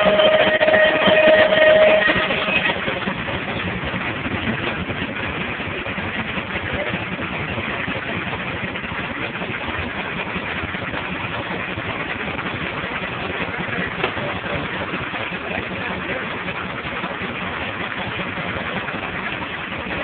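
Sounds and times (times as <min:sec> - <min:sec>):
steam engine driving sawmill: 0:00.0 - 0:20.0.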